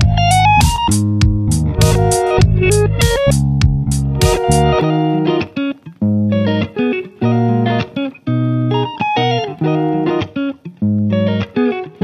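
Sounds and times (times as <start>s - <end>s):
plucked guitar chords: 0.0s - 12.0s.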